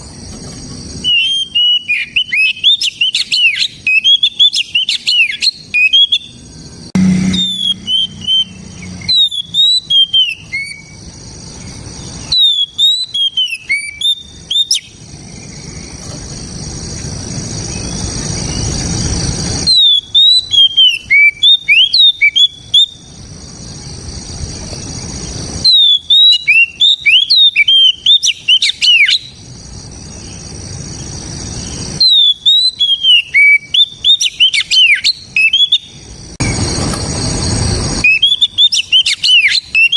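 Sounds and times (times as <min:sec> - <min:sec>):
bird singing whistled notes: 0:01.0 - 0:16.0, 0:17.6 - 0:18.9, 0:19.6 - 0:23.2, 0:24.8 - 0:39.9.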